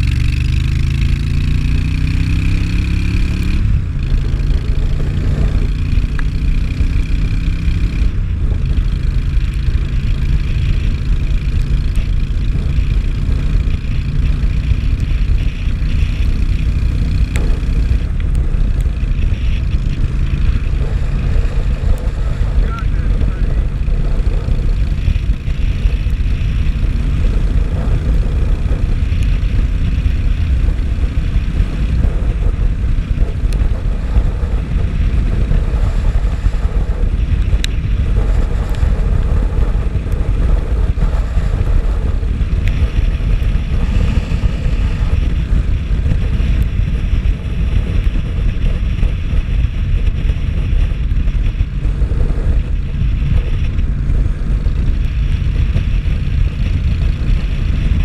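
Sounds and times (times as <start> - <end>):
vehicle running on wet road: 0.0 - 58.0
wind rumble on microphone: 0.0 - 58.0.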